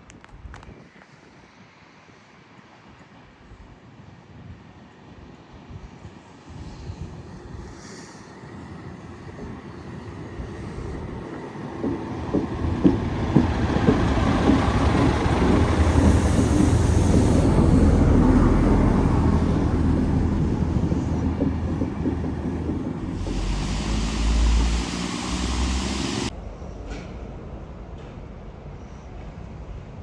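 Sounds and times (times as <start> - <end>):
train passing: 1.4 - 30.0.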